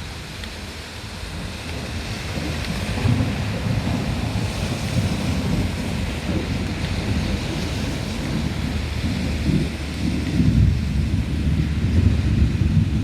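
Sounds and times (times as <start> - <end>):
heavy rain hissing: 0.0 - 13.0
low thunder rumble: 1.3 - 13.0.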